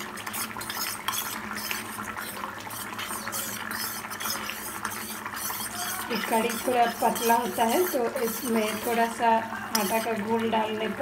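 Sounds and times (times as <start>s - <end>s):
spoon clinking and scraping steel bowl: 0.0s - 10.4s.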